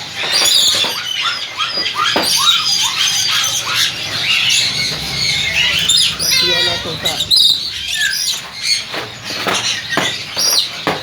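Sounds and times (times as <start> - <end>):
parrots squawking and chirping: 0.0 - 11.0.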